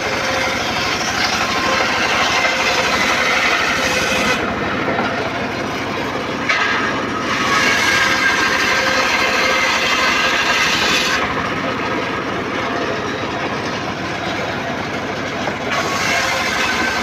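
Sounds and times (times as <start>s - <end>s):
saw cutting wood: 0.0s - 17.0s
saw engine running: 0.0s - 17.0s.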